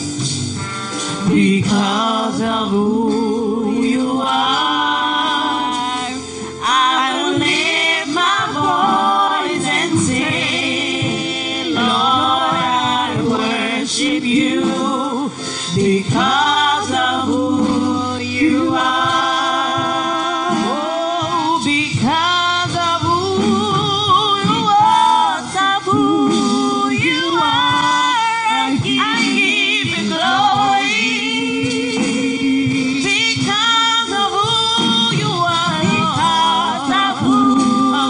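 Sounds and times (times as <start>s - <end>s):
woman singing gospel song: 1.2s - 38.0s.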